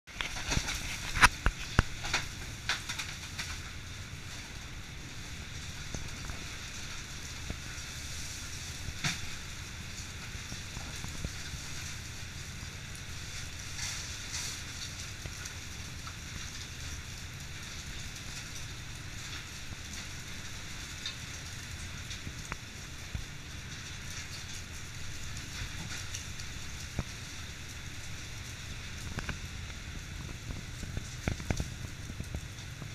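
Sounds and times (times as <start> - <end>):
low drone and hiss: 0.1 - 32.9.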